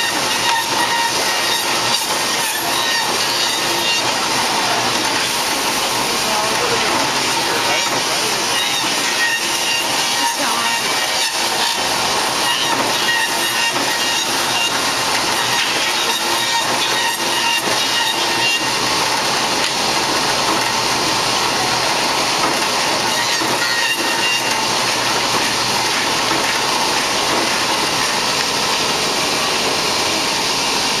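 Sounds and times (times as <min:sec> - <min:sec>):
shaping machine hissing: 0:00.0 - 0:31.0.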